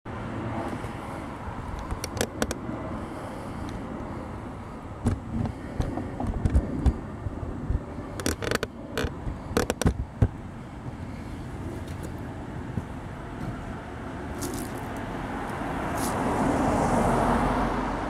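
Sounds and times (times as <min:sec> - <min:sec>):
road traffic rumble: 0:00.1 - 0:18.0.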